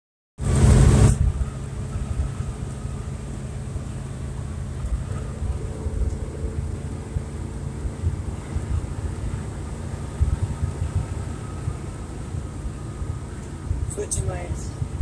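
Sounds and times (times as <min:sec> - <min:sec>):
engine and road drone: 0:00.4 - 0:15.0.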